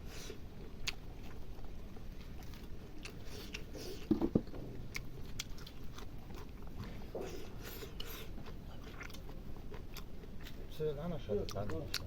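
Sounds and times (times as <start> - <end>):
biting and chewing: 0.8 - 10.8.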